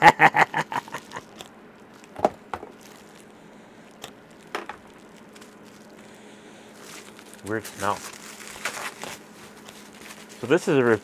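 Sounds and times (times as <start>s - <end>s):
package crackling: 0.4s - 11.0s.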